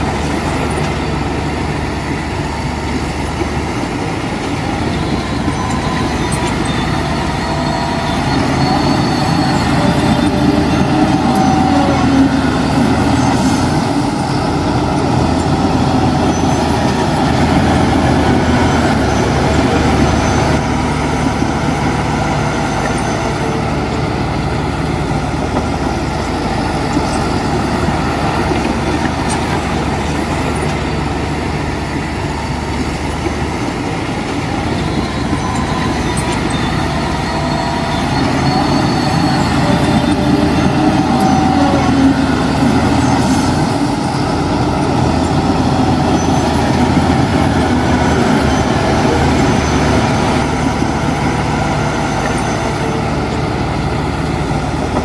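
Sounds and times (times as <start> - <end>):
diesel construction machinery running: 0.0 - 55.0.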